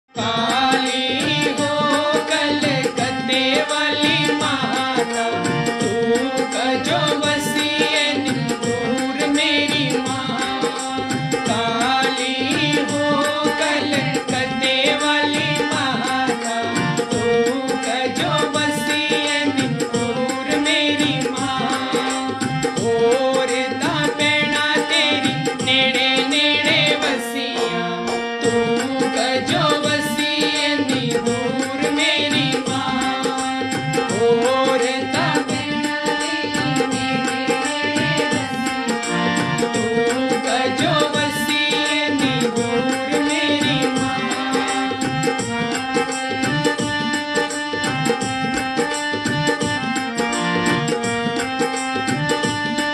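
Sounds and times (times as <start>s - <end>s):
harmonium: 0.0s - 52.9s
man singing: 0.1s - 52.9s
percussion rhythm: 0.1s - 52.9s.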